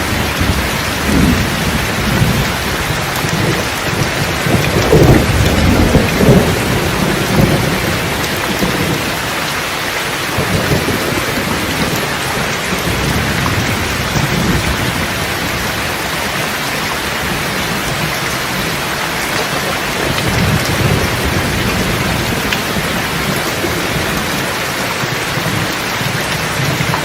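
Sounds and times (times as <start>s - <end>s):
low rolling thunder: 0.0s - 27.0s
rain falling: 0.0s - 27.0s.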